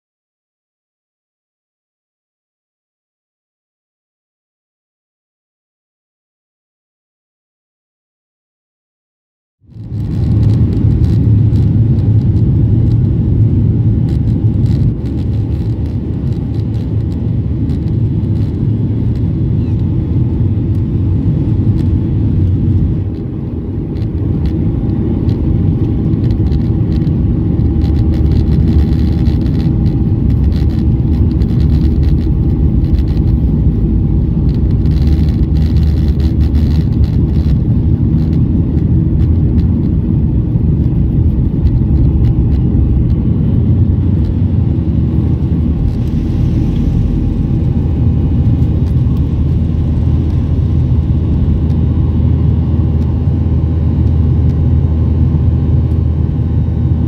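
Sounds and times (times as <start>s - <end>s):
jet cabin engine rumble: 9.7s - 57.0s.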